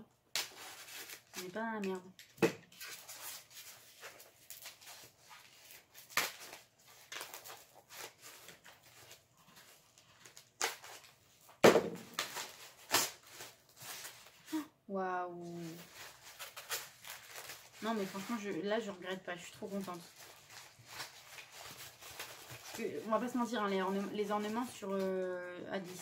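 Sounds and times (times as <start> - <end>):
foam and cardboard packaging rustling: 0.3 - 14.7, 15.3 - 26.0.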